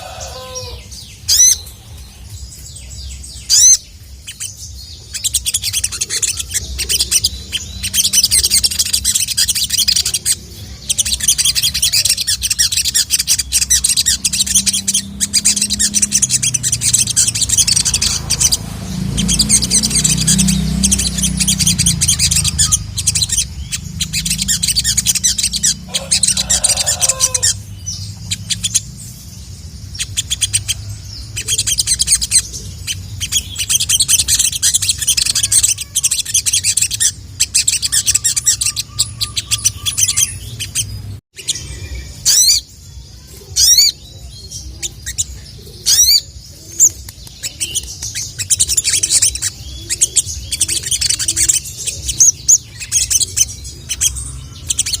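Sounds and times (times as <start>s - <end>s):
sunbird singing high chirps: 0.0s - 55.0s.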